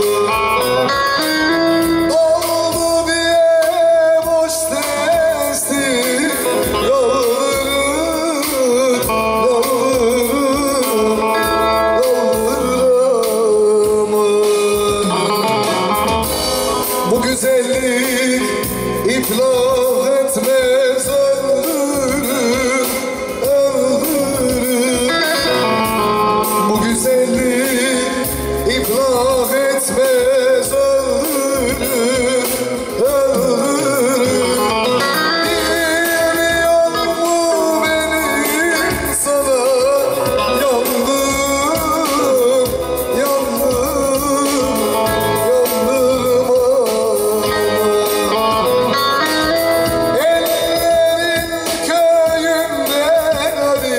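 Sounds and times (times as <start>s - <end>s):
man singing: 0.0s - 53.9s.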